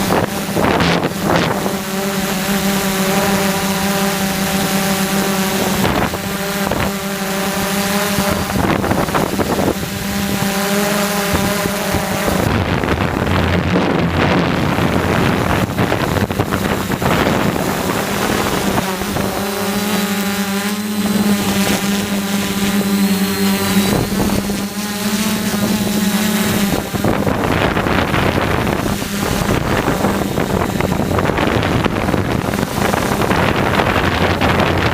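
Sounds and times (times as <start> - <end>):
drone propellers droning: 0.0 - 34.9
wind on microphone: 0.0 - 34.9.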